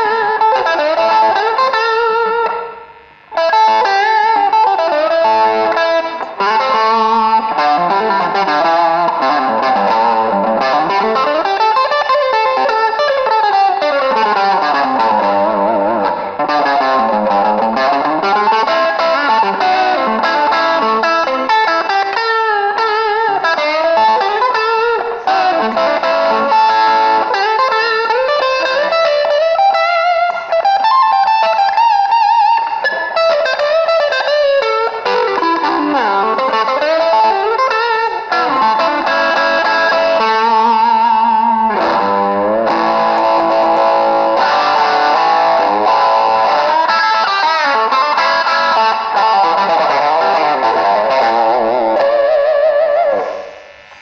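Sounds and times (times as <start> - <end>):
overdriven electric guitar lead: 0.0 - 54.0.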